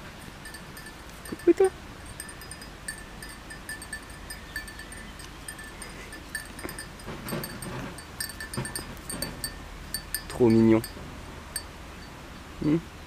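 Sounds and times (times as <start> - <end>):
small metal bell tinkling: 0.0 - 11.0.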